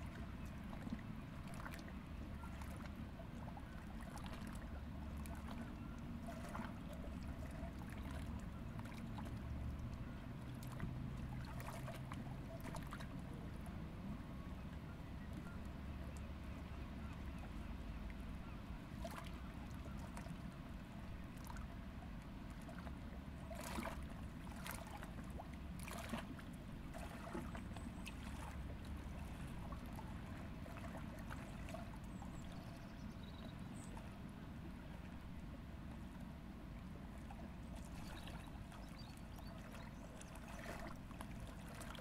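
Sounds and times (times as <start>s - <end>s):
soft splashes: 0.0s - 13.8s, 18.1s - 20.5s, 21.3s - 36.2s, 37.1s - 42.0s
low steady rumble: 0.0s - 42.0s
water lapping at rocky bank: 0.0s - 42.0s.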